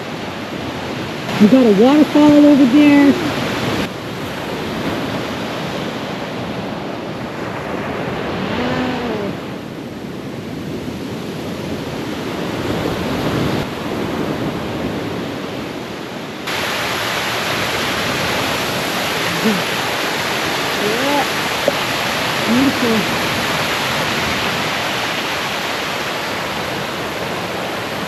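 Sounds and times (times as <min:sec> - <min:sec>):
surf washing onto beach: 0:00.0 - 0:28.0
wind on microphone: 0:00.0 - 0:28.0.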